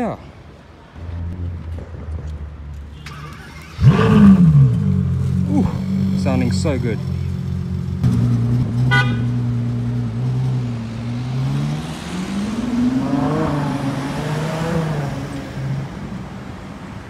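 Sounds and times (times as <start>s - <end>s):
car engine driving off: 1.0s - 16.1s.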